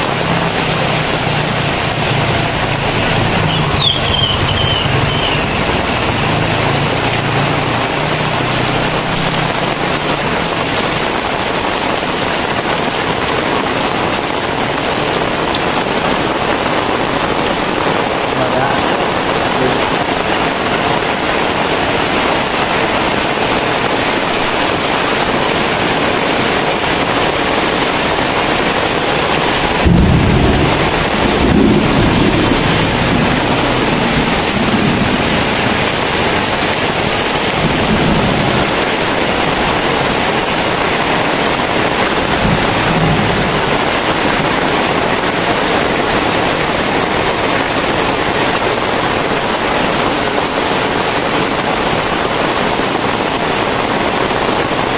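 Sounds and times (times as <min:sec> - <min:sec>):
thunder rumbling: 0:00.0 - 0:53.2
heavy rain: 0:00.0 - 0:54.9.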